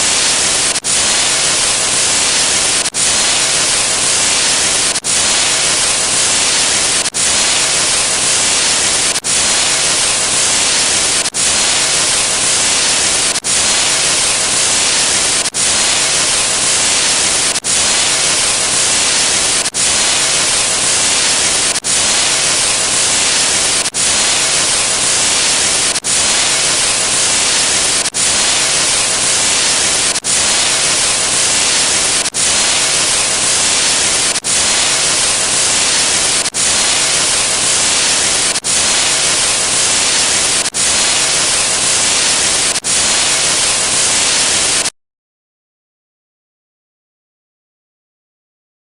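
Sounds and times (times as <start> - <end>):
hissing static: 0.0 - 44.9.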